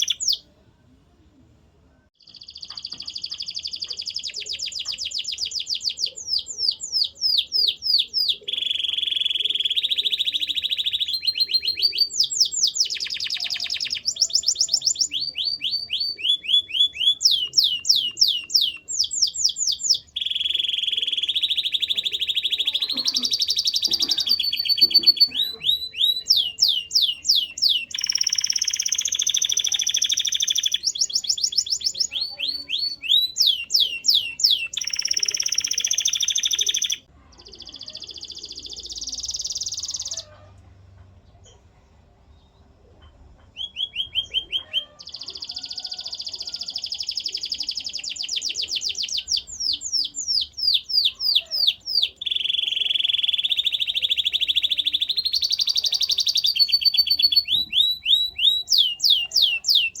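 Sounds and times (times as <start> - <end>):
canary singing trills and whistles: 0.0 - 0.4, 2.2 - 40.3, 43.5 - 60.0.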